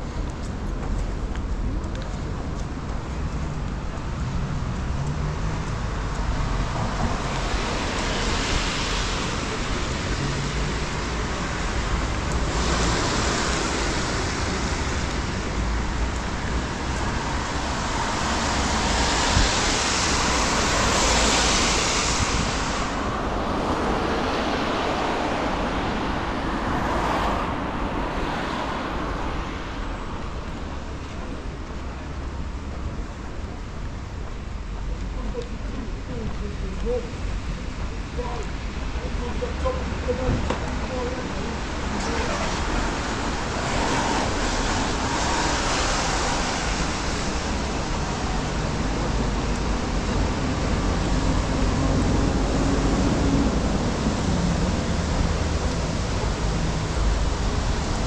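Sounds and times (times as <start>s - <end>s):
vehicles passing with tyre hiss: 0.0s - 58.0s.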